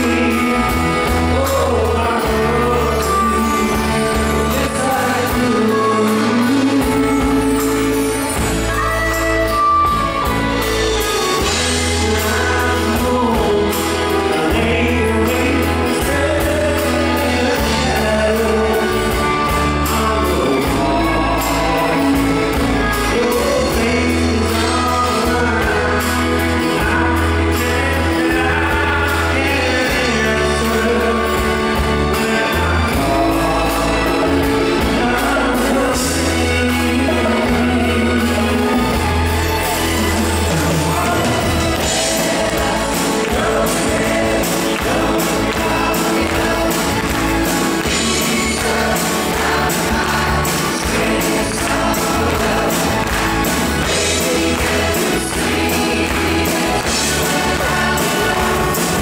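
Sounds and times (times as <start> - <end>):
lead vocal singing: 0.0 - 59.0
live band playing: 0.0 - 59.0
pulsing bass line: 0.0 - 59.0.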